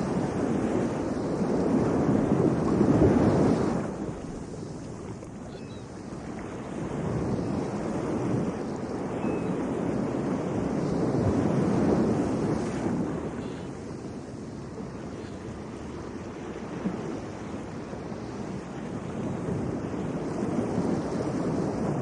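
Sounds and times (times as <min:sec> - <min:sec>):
waves washing in: 0:00.0 - 0:22.0
wind on microphone: 0:00.0 - 0:22.0.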